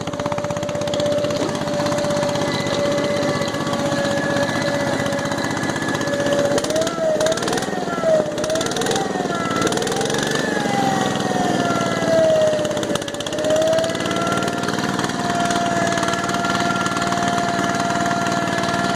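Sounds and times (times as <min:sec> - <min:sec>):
lawn tractor engine running: 0:00.0 - 0:18.9.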